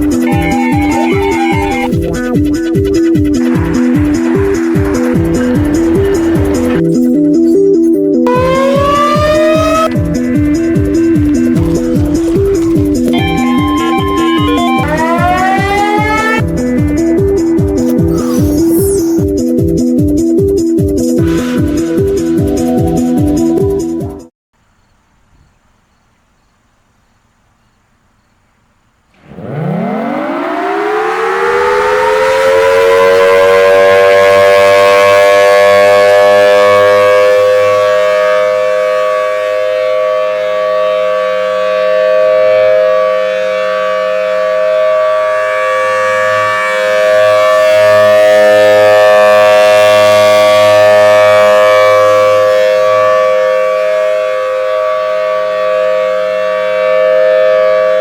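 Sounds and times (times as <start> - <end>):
warning siren wailing: 0.0 - 19.3, 29.2 - 58.0.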